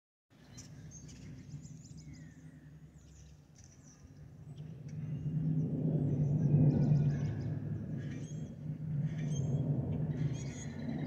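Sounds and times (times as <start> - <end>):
small birds chirping: 0.3 - 11.0
jet airliner hum: 0.7 - 11.0.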